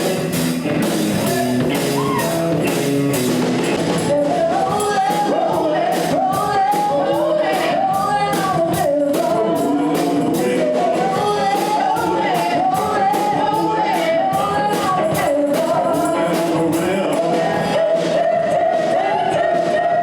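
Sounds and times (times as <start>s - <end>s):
lead vocal singing: 0.0s - 20.0s
live rock band playing: 0.0s - 20.0s
steady drum beat: 0.0s - 20.0s.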